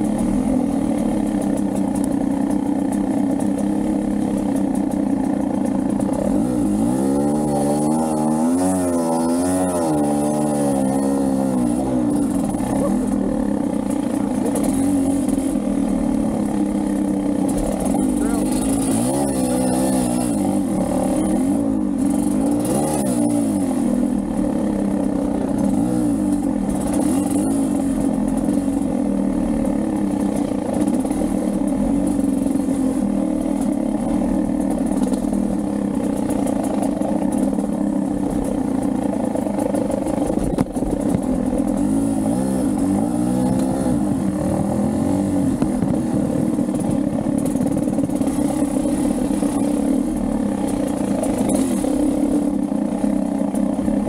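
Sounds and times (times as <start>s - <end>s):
motorcycle clacks: 0.0s - 54.0s
two-stroke motorcycle engine revving: 0.0s - 54.0s.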